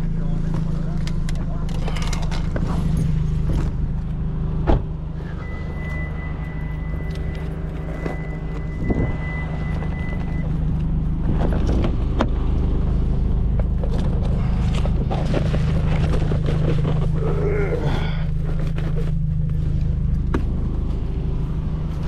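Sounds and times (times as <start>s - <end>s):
car engine low drone: 0.0s - 22.0s.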